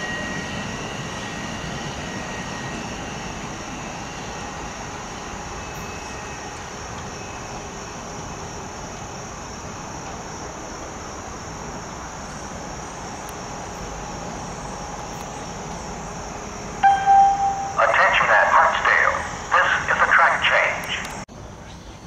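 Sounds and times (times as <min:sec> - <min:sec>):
electric train rumble and hiss: 0:00.0 - 0:22.0.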